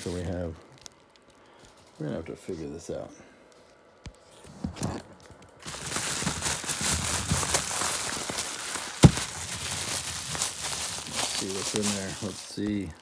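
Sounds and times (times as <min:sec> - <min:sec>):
bubble wrap crinkling: 0:00.0 - 0:02.2, 0:03.5 - 0:13.0.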